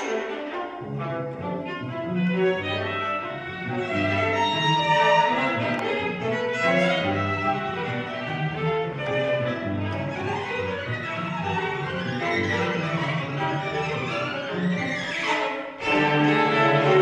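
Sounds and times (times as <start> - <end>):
low cello line: 0.0 - 17.0
string quartet playing: 0.0 - 17.0.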